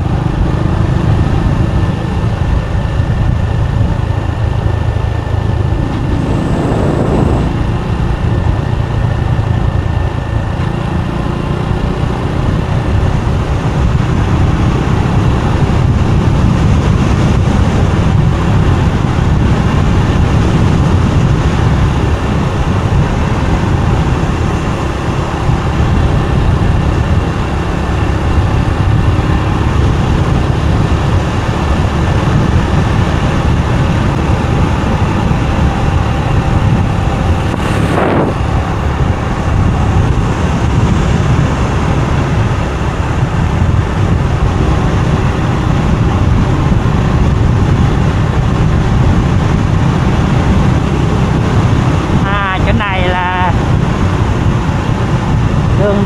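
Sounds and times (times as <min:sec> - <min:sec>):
motorbike engine rumble: 0:00.0 - 0:56.0
road noise: 0:00.0 - 0:56.0
rush of noise: 0:00.0 - 0:56.0.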